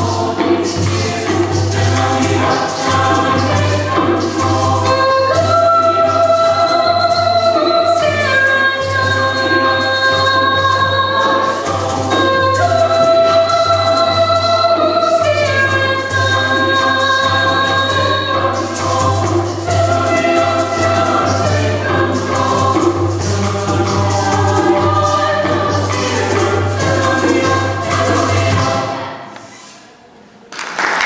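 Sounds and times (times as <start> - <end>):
choir singing sustained chords: 0.0 - 8.3, 9.0 - 29.4.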